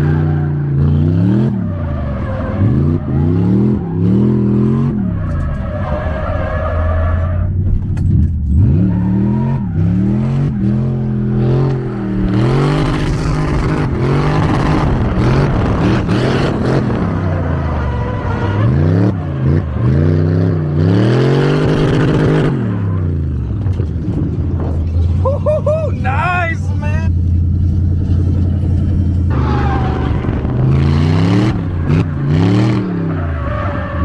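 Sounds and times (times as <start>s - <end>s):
car engine revving: 0.0s - 25.8s, 26.6s - 34.0s.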